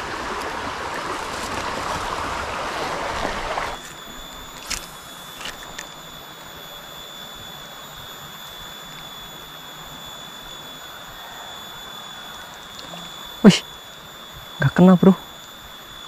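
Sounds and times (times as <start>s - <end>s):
high-pitched whine: 0.0s - 16.0s.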